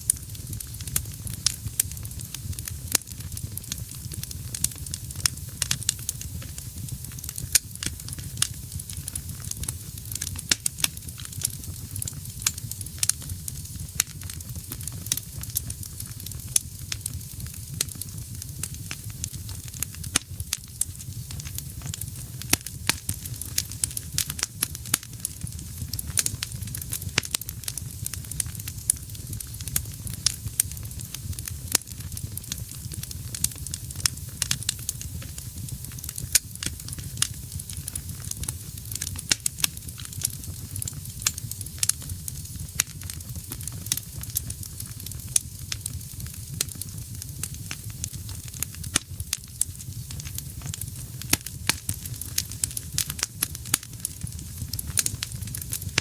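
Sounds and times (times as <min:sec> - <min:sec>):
fire flames rumbling: 0:00.0 - 0:56.0
wood crackling and popping: 0:00.0 - 0:56.0.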